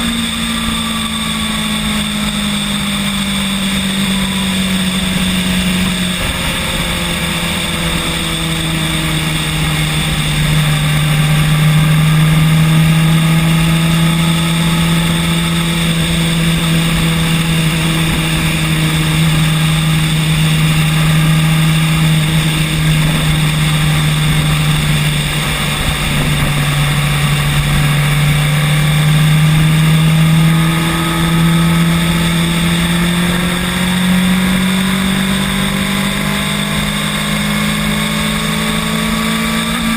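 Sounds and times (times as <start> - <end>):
electric scooter motor humming: 0.0 - 39.9
road and wind rumble: 0.0 - 39.9.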